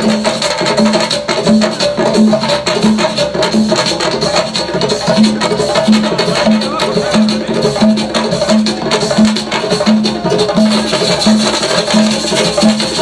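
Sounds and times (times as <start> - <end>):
drums: 0.0 - 13.0.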